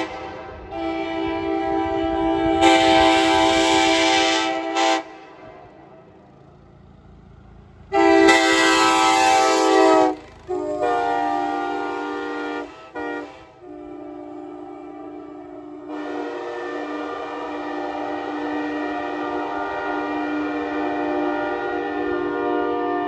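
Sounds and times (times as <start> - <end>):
locomotive air horn blasts: 0.0 - 6.1, 7.9 - 23.0.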